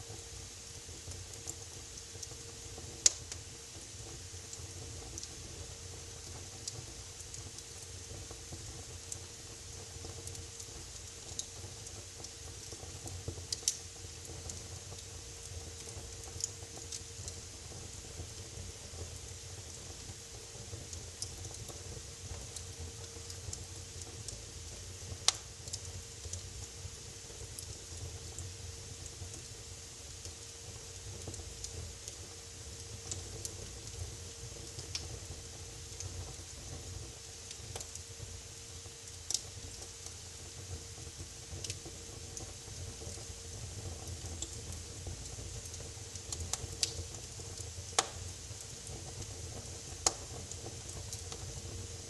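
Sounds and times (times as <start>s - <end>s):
faint steady hum: 0.0s - 52.0s
wood fire crackling: 0.0s - 52.0s.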